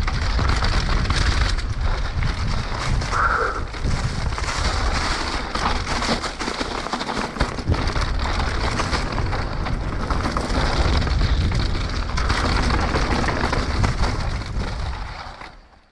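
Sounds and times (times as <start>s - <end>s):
mountain bike rattling on rough trail: 0.0s - 15.9s.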